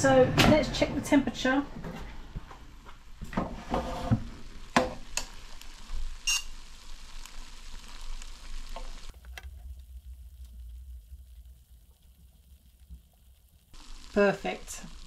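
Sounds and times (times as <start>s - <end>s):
fat sizzling and crackling: 2.2s - 15.0s.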